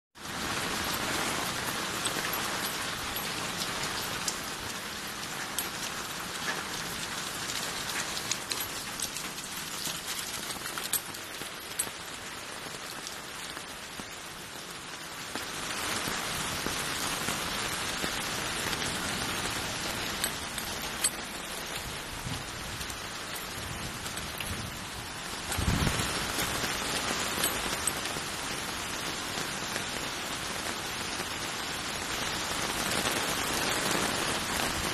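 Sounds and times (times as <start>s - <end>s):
heavy rain on street: 0.2s - 34.9s.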